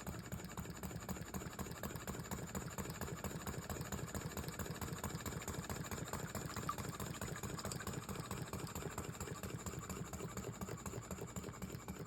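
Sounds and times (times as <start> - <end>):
model steam engine running: 0.0 - 12.0.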